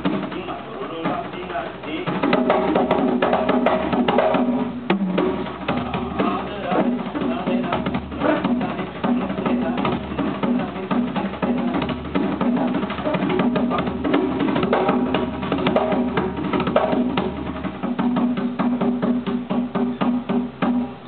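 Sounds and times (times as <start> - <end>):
hand drums playing fast rhythm: 0.0 - 21.0.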